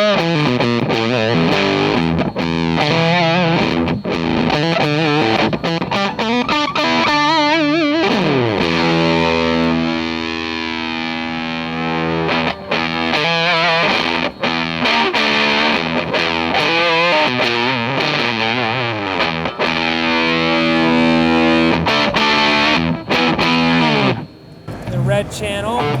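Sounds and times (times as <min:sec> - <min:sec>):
fuzzed electric guitar: 0:00.0 - 0:26.0.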